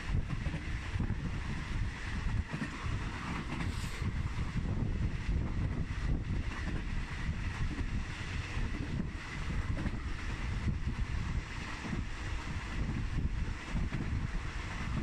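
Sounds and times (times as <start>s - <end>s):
train running rumble: 0.0s - 15.0s
wind buffeting microphone: 0.0s - 15.0s.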